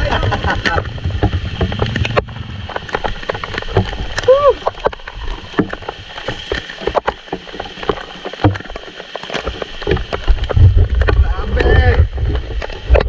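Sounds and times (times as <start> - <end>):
low wind rumble: 0.0 - 7.4, 9.7 - 13.0
heavy rain on microphone: 0.0 - 13.0.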